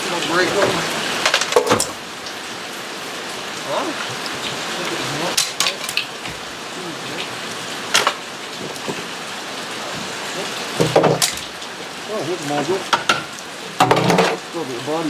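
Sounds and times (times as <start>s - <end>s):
steady rain-like hiss: 0.0s - 15.0s.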